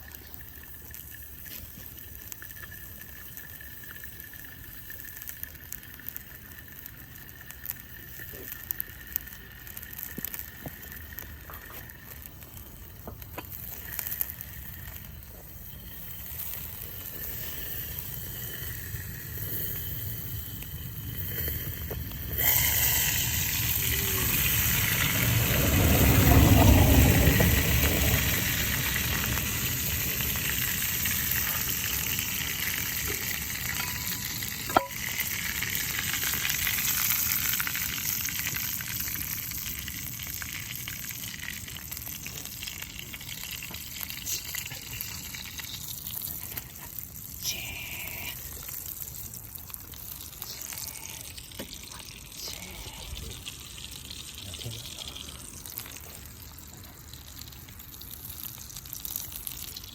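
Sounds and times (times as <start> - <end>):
food sizzling in a skillet: 0.0 - 59.9.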